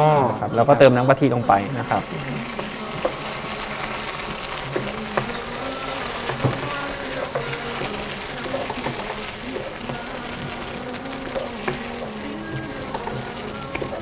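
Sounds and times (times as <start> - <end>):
curry paste sizzling in oil: 1.1 - 14.0
wooden spatula scraping a pan: 1.6 - 14.0.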